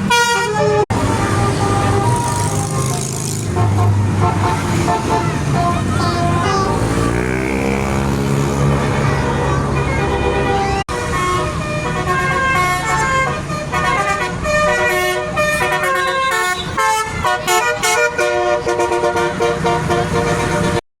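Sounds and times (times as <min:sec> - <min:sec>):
multi-tone bus horn melody: 0:00.0 - 0:20.8
vehicle rumble: 0:00.0 - 0:20.8.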